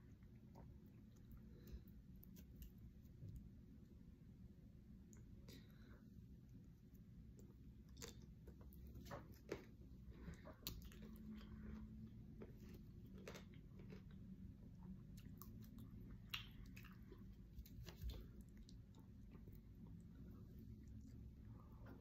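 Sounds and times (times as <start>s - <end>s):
person chewing food: 0.0s - 3.8s, 5.1s - 22.0s.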